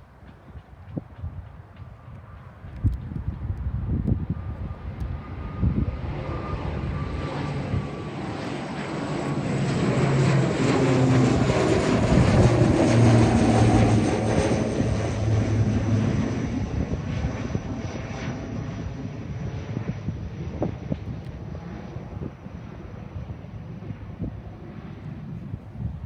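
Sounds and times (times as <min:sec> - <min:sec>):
aircraft engines passing overhead: 0:00.0 - 0:26.0.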